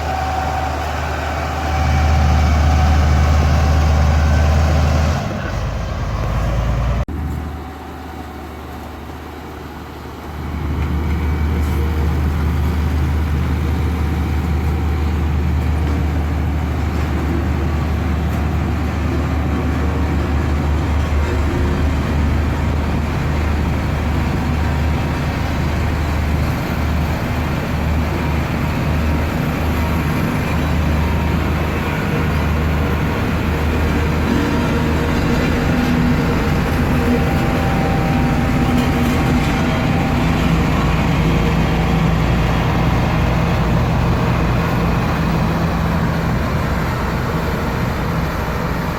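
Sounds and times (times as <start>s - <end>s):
heavy machine engine humming: 0.0s - 48.9s.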